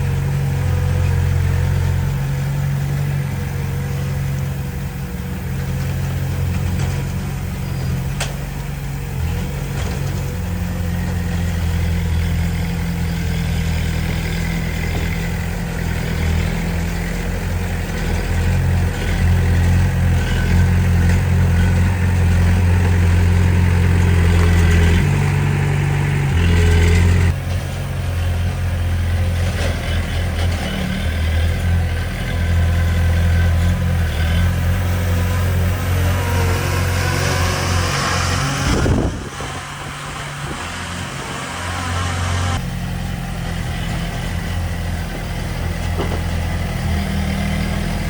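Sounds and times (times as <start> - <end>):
heavy machinery diesel engine: 0.0 - 48.0.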